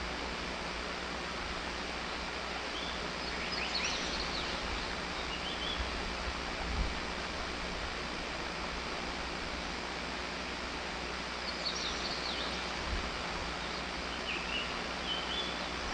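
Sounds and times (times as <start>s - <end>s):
outdoor background hiss: 0.0s - 15.9s.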